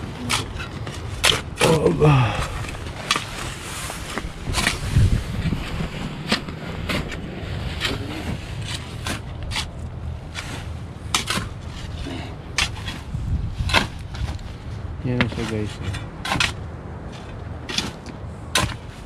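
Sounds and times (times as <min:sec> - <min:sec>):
steady low rumble: 0:00.0 - 0:19.0
sharp scrapes and knocks: 0:02.6 - 0:14.5, 0:15.1 - 0:19.0.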